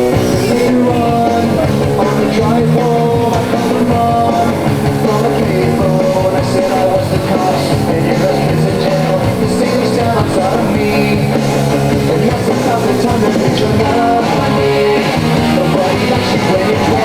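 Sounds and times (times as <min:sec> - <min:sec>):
loud rock music with guitar: 0:00.0 - 0:17.0.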